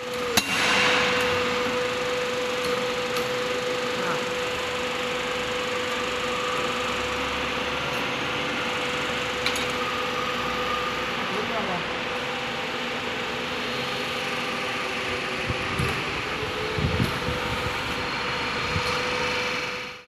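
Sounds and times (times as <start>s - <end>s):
machine hum with whine: 0.0s - 20.0s.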